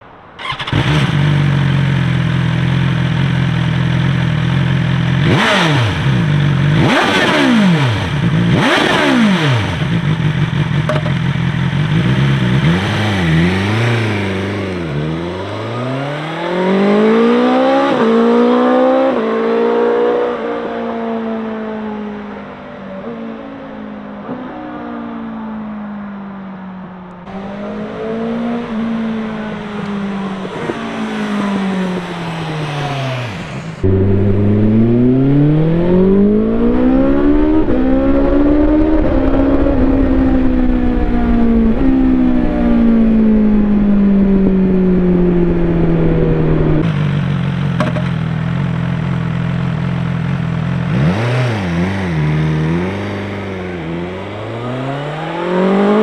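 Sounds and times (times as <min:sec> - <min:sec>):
motorcycle engine revving: 0:00.4 - 0:26.2, 0:27.2 - 0:56.0.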